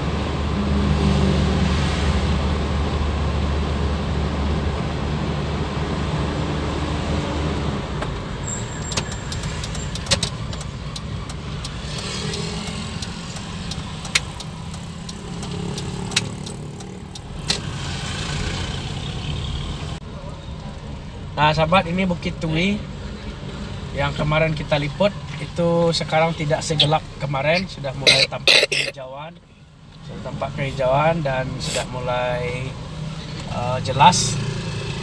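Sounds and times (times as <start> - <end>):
vehicle engine humming: 0.0 - 21.4, 24.9 - 35.0
road noise: 0.0 - 35.0.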